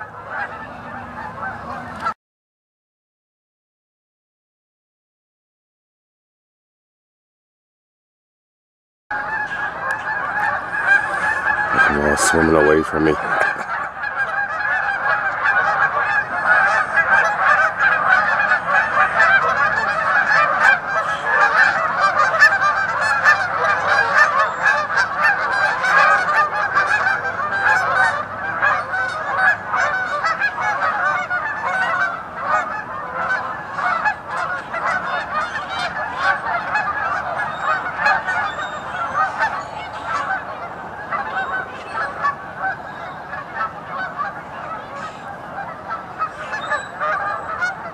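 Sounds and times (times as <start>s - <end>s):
flock of geese honking: 0.0s - 2.2s, 9.1s - 47.9s.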